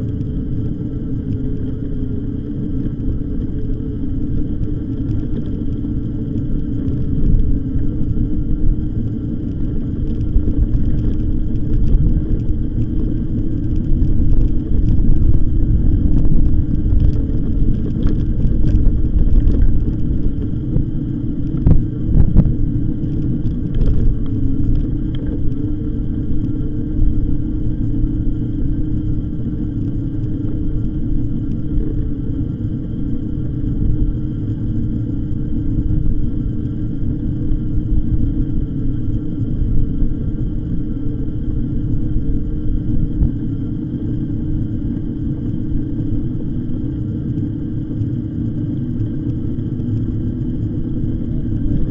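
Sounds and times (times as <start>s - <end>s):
wind on microphone: 0.0s - 51.9s.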